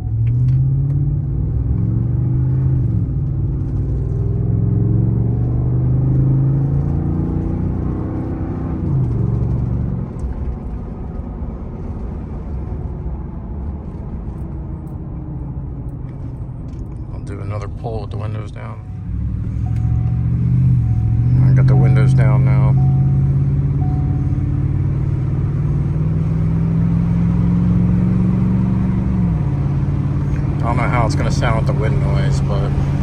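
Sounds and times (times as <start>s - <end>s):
truck engine accelerating: 0.0s - 33.0s.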